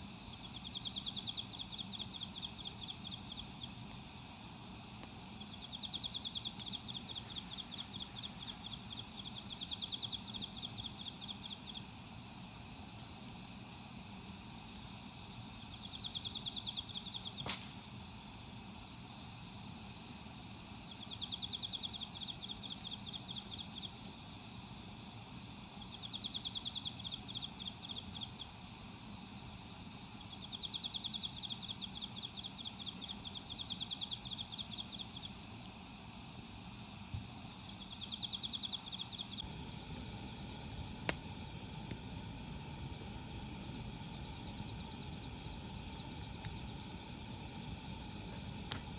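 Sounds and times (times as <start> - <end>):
outdoor background noise: 0.0 - 48.9.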